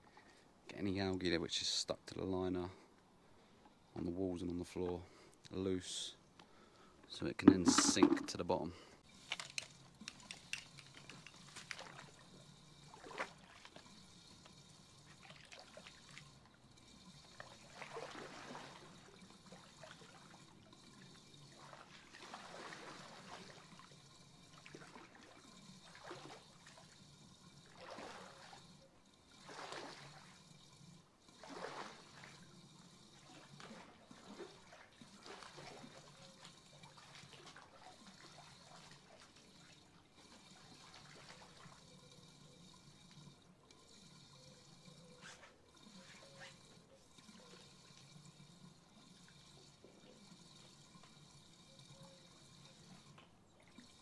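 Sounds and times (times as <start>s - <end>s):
pool water sloshing: 2.0s - 54.0s.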